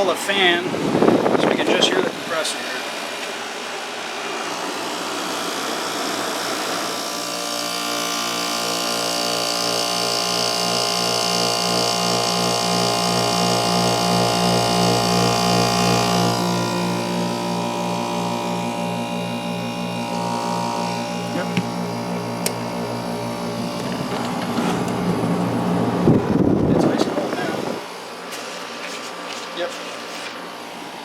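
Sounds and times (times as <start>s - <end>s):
air conditioner compressor hum: 0.0s - 31.0s.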